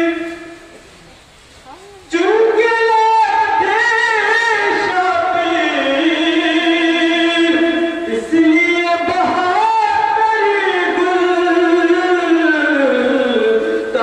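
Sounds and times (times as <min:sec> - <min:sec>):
man singing devotional song: 0:00.0 - 0:00.8, 0:02.1 - 0:14.0.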